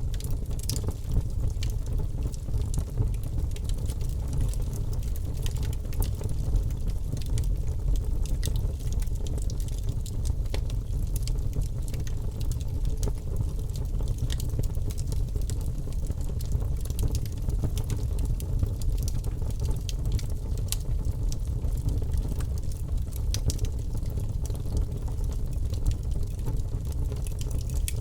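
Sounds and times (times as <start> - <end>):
low rumble of flames: 0.0 - 28.0
wood crackling and popping: 0.0 - 28.0.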